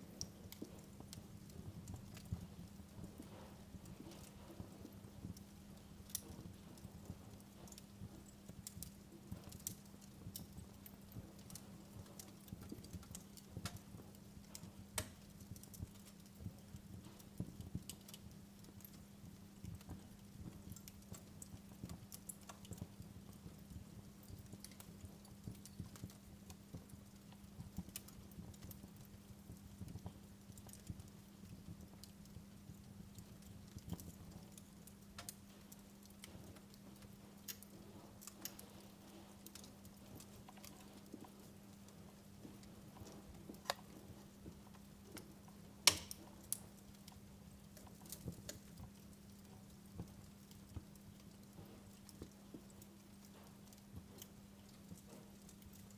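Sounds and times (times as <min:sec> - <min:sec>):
faint steady hiss: 0:00.0 - 0:55.9
fire pops and snaps: 0:00.0 - 0:55.9
wood fire crackling: 0:00.0 - 0:55.9.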